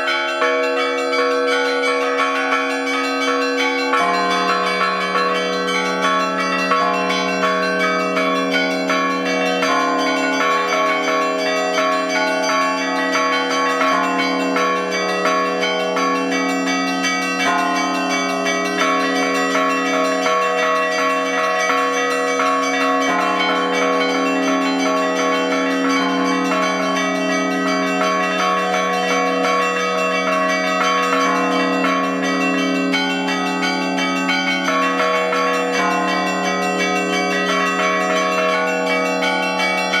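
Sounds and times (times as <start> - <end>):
hum of large bells: 0.0 - 40.0.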